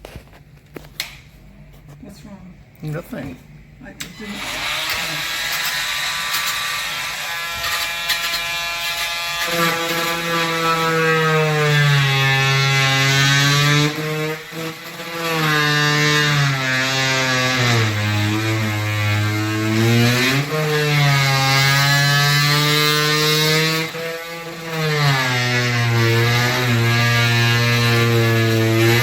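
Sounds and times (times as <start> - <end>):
oscillating multi-tool buzzing: 4.1 - 29.0.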